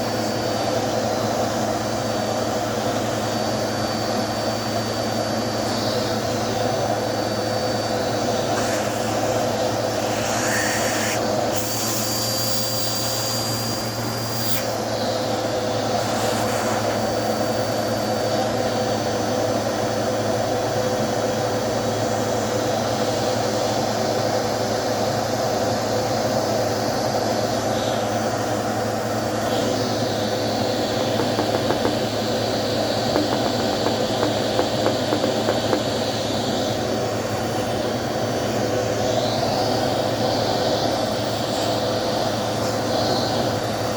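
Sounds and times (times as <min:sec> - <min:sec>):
vacuum cleaner running: 0:00.0 - 0:22.1, 0:27.8 - 0:43.9.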